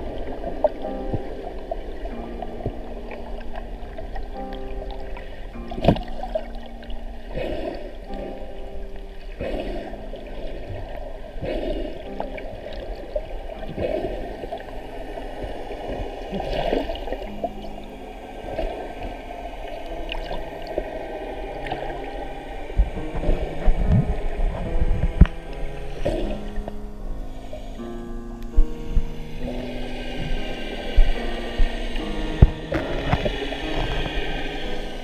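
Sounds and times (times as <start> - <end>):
muffled underwater sloshing: 0.0 - 35.0.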